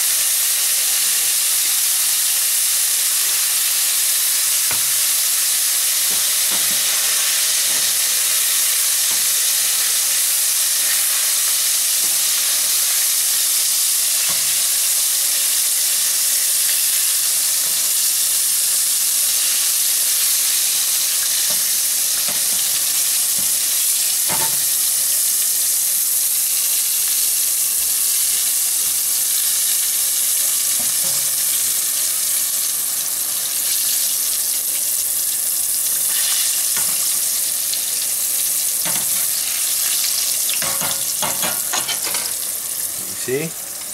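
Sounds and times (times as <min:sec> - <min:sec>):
fish deep-frying in sizzling oil: 0:00.0 - 0:43.9.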